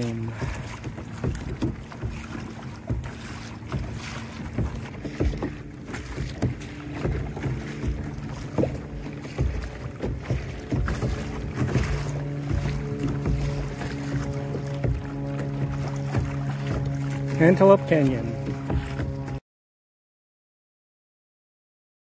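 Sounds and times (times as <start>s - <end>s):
water splashing against kayak hull: 0.0s - 19.4s.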